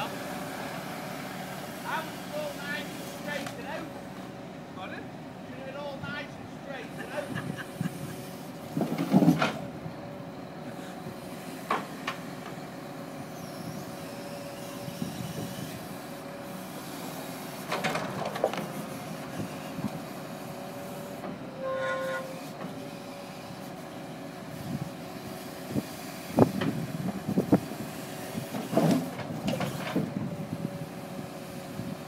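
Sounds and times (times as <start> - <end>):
hydraulic crane hum and whine: 0.0 - 32.0.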